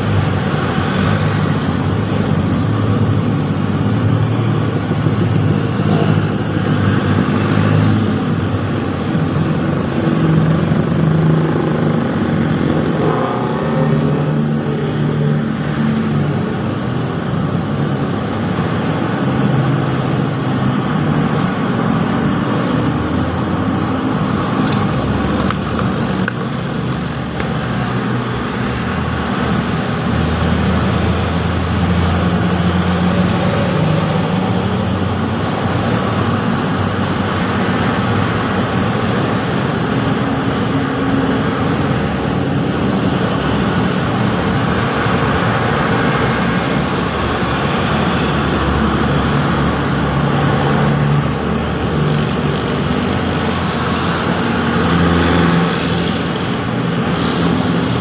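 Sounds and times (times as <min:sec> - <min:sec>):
road traffic driving past: 0:00.0 - 0:58.0.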